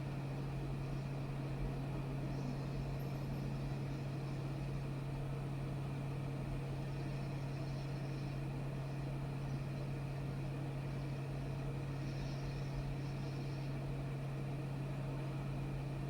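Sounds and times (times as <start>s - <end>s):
fan humming and hissing: 0.0s - 16.0s.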